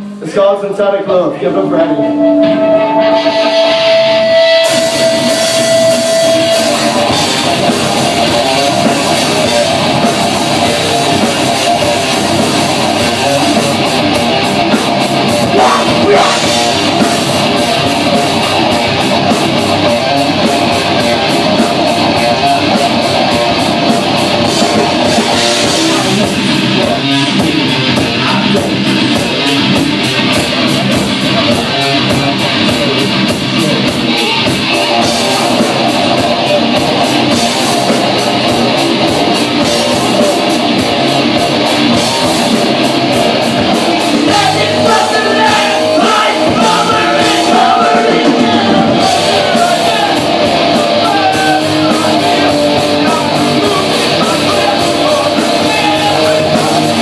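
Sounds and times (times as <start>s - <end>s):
distorted electric guitar: 0.0s - 57.0s
drum kit: 0.0s - 57.0s
cymbals keeping a beat: 1.6s - 57.0s.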